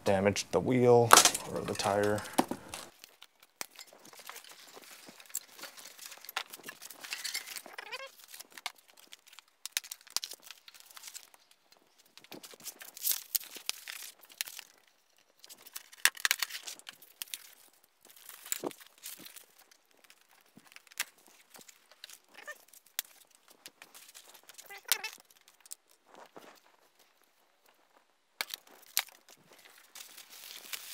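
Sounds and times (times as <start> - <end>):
packaging rustling and crinkling: 1.1 - 30.9.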